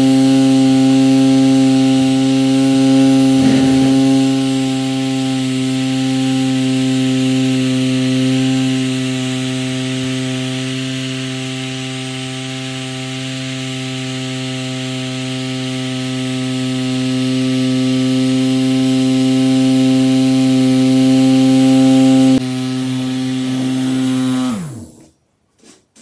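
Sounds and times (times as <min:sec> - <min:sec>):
small motor spinning propeller: 0:00.0 - 0:25.1.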